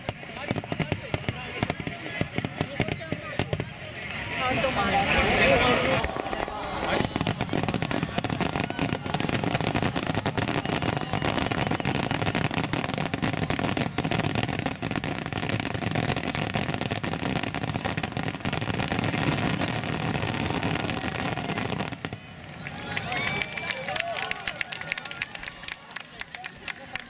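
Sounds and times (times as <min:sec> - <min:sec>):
rapid-fire fireworks bangs: 0:00.0 - 0:23.3.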